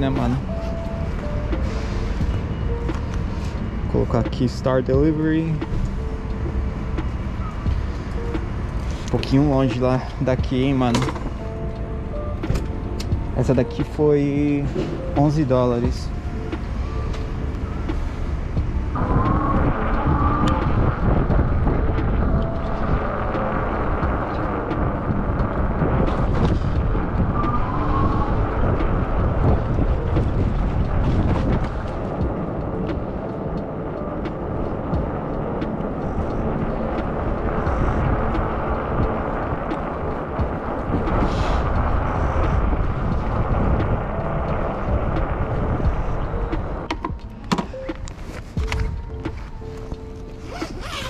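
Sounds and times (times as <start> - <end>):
rumbling road noise: 0.0 - 51.0
wind buffeting microphone: 0.0 - 51.0.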